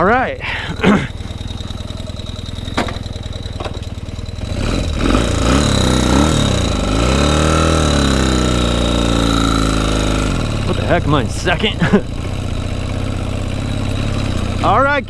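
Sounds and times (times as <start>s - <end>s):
motorcycle engine idling: 0.0s - 15.0s
motorcycle pulling away: 0.0s - 15.0s.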